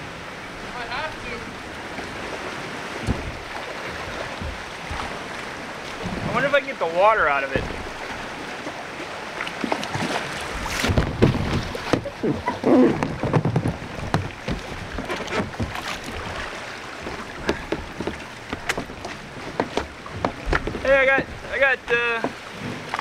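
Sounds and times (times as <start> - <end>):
water sloshing around kayak: 0.0 - 23.0.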